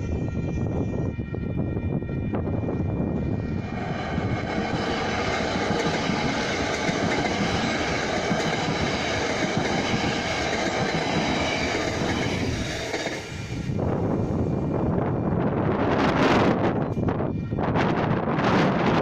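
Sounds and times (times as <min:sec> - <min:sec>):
train wheels running on rails: 0:00.0 - 0:19.0.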